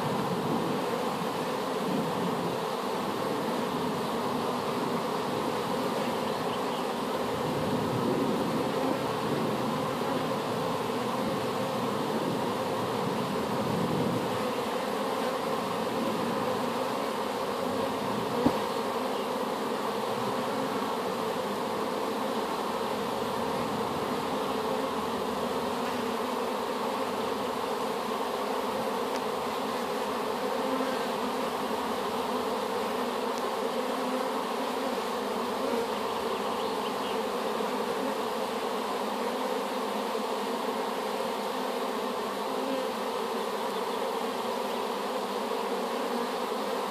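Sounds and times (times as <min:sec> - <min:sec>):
bees buzzing: 0:00.0 - 0:46.9.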